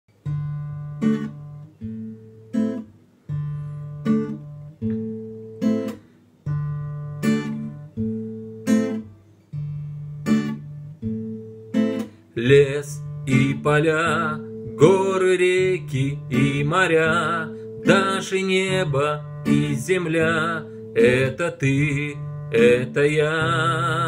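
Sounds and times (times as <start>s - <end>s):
acoustic guitar playing: 0.1s - 24.0s.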